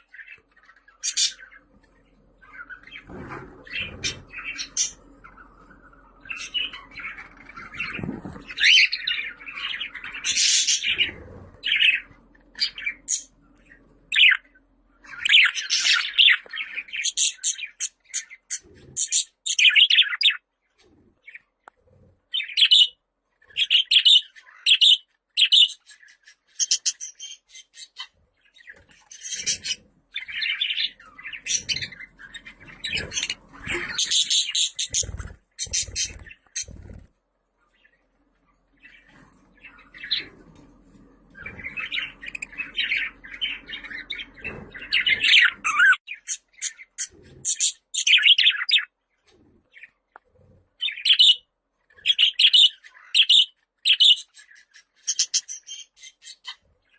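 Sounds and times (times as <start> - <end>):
budgerigars chirping and warbling: 0.0 - 56.9.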